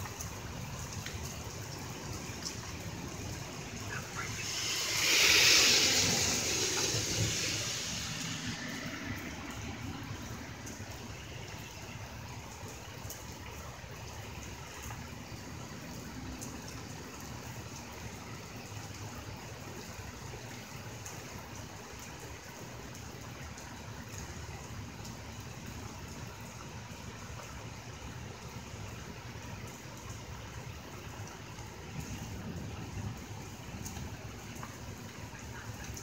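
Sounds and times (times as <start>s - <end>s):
rain: 0.0s - 36.0s
wind: 0.0s - 36.0s.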